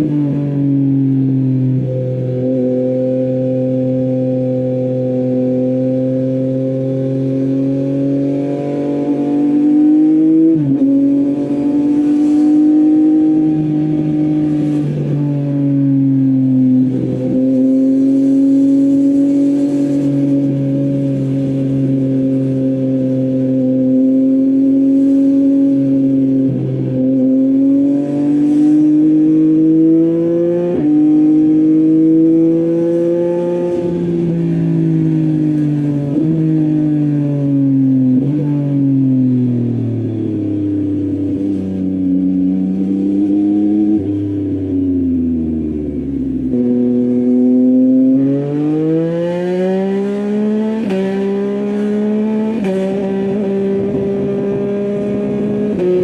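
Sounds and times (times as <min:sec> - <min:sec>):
motorcycle engine while riding: 0:00.0 - 0:56.0.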